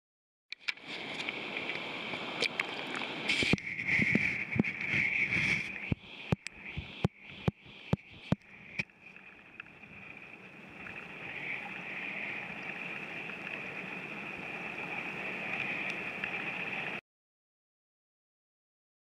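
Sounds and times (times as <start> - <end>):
stream water rushing underwater: 0.6 - 17.0.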